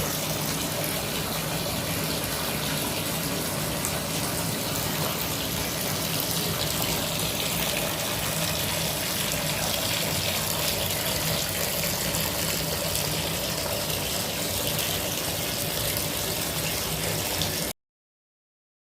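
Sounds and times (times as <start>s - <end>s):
water running from a tap: 0.0s - 17.8s.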